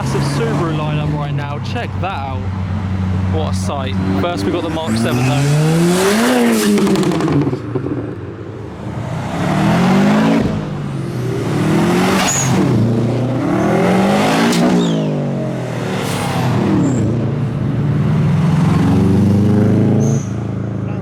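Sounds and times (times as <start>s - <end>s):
cars accelerating past: 0.0s - 21.0s.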